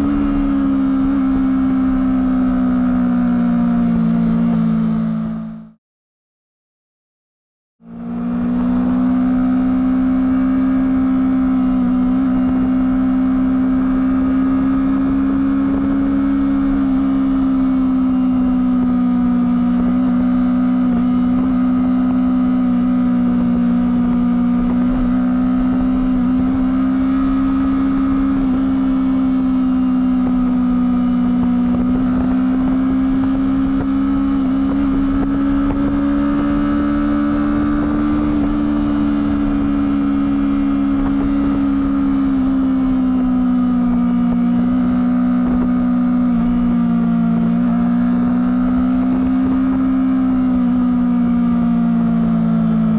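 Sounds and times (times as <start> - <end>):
motorcycle engine at high revs: 0.0 - 5.8, 7.8 - 52.9.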